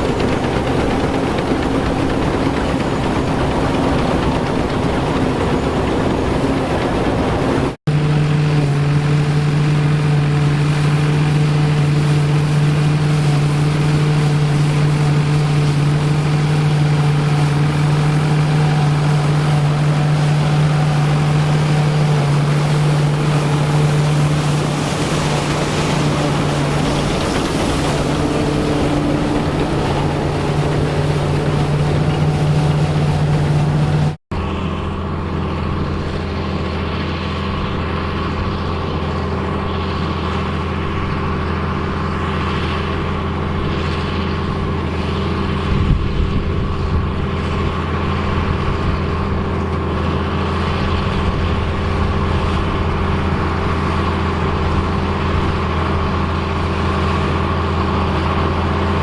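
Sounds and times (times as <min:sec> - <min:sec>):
engine low hum: 0:00.0 - 0:59.0
machinery engine droning: 0:00.0 - 0:59.0.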